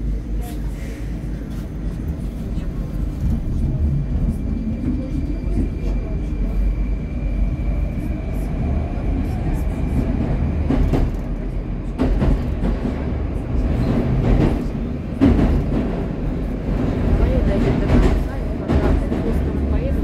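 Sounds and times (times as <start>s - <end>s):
metro train wheels rumbling on rail: 0.0s - 20.0s.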